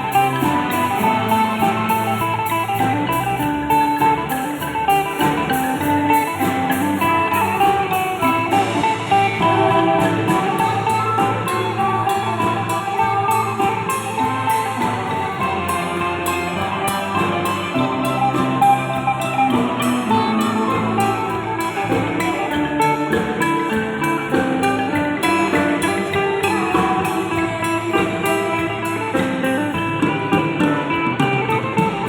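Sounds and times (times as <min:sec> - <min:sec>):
percussion beat: 0:00.0 - 0:32.0
plucked string melody: 0:00.0 - 0:32.0.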